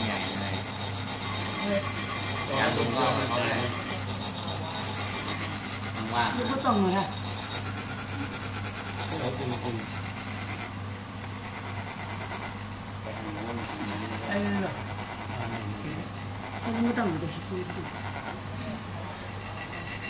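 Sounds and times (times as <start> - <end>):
metal rod rasping on metal funnel: 0.0 - 18.4, 19.2 - 20.0.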